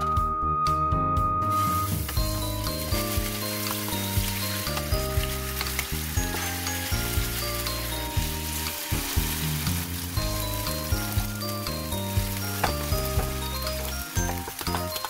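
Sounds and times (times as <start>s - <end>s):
background music with steady beat: 0.0s - 15.0s
oil sizzling in frying pan: 1.4s - 15.0s.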